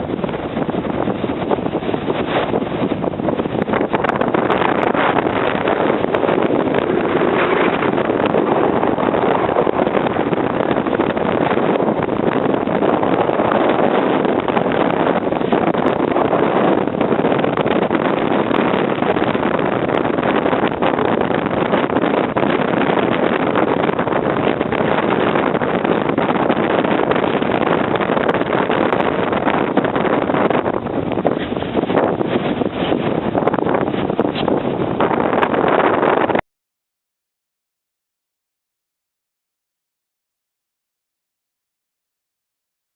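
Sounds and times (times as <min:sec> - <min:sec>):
storm wind on microphone: 0:00.0 - 0:36.4.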